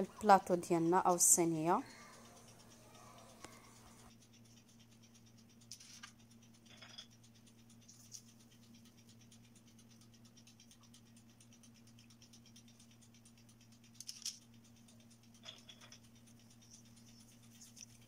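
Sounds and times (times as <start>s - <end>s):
dough rolled in sesame seeds: 0.0s - 18.0s
steady low hum: 0.0s - 18.0s.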